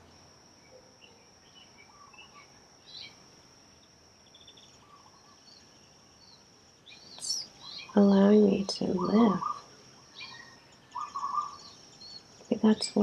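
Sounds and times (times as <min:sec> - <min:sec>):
steady high-pitched whine: 0:00.0 - 0:13.0
bird chirps: 0:00.6 - 0:03.2, 0:04.3 - 0:13.0.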